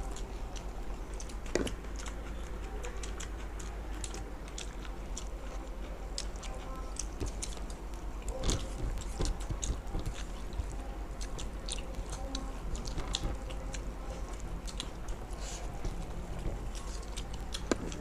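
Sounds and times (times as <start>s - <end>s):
people chewing and eating: 0.0s - 18.0s
steady low hum: 0.0s - 18.0s.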